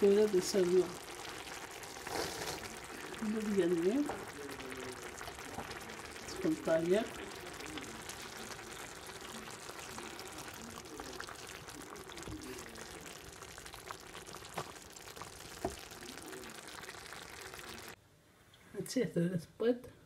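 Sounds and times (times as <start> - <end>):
stew bubbling in a pan: 0.0 - 18.0.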